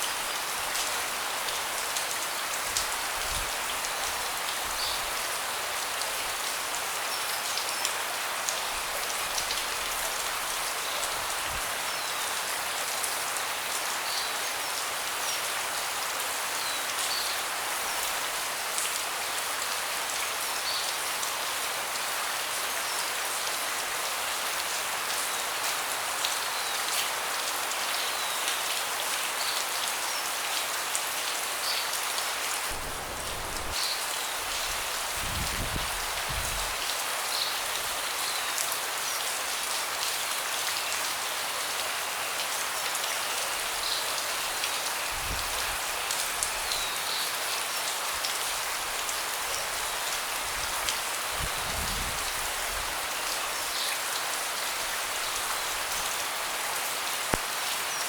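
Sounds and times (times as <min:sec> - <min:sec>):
rain falling on a deck: 0:00.0 - 0:58.0.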